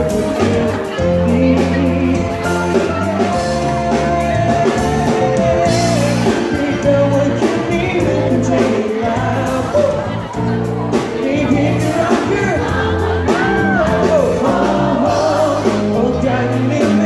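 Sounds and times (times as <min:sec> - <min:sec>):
pop band playing: 0:00.0 - 0:17.0.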